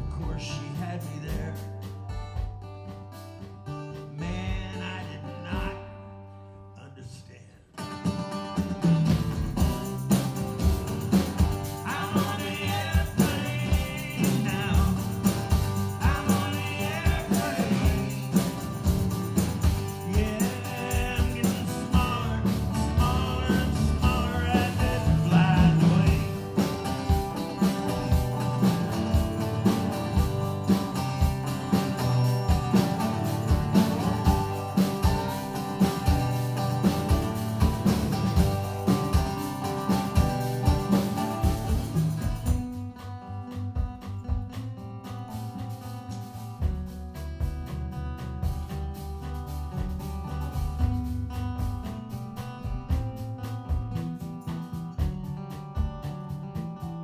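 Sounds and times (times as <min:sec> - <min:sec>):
strummed acoustic guitars: 0:00.0 - 0:57.0
hand percussion beat: 0:08.6 - 0:57.0.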